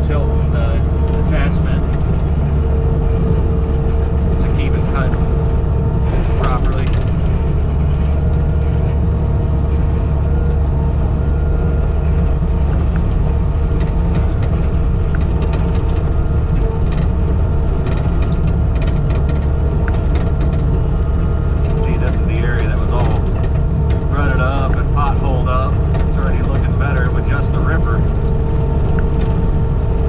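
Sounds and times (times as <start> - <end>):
rocks and metal clicking and rattling: 0.0 - 30.0
skid steer engine running: 0.0 - 30.0.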